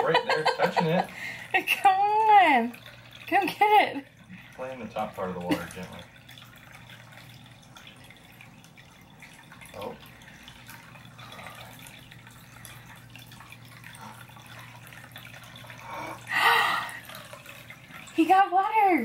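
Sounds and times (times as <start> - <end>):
low pump hum: 0.0 - 19.0
water trickling into bowl: 0.0 - 19.0.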